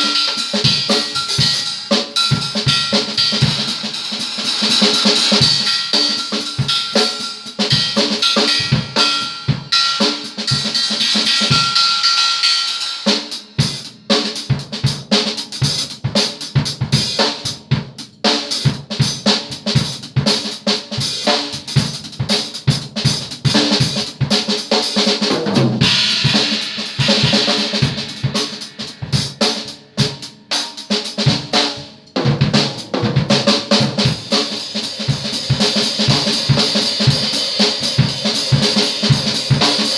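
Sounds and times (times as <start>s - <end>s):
fast drum kit playing: 0.0s - 39.9s.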